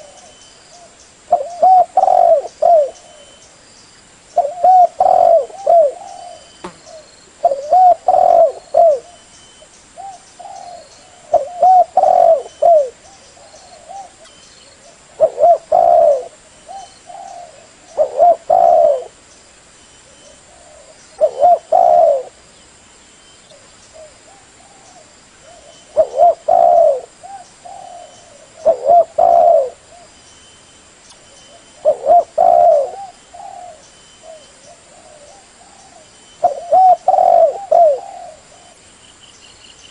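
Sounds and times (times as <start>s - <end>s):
dove cooing: 0.0s - 3.4s, 4.4s - 9.2s, 10.0s - 19.2s, 20.2s - 22.4s, 23.5s - 30.1s, 31.5s - 38.8s.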